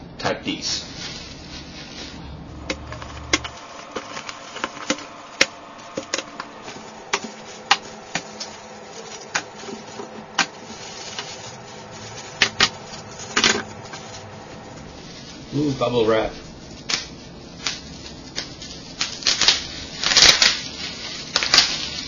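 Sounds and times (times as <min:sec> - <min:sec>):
bubble wrap and cardboard rustling: 0:00.5 - 0:22.0.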